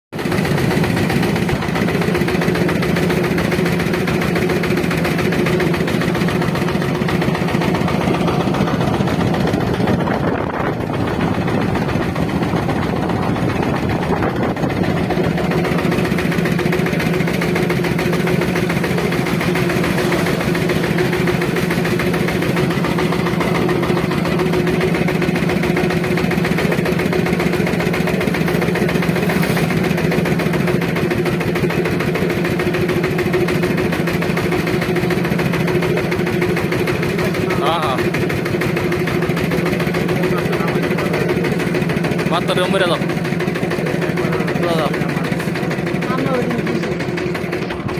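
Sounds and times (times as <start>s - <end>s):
engine chugging: 0.1s - 47.9s.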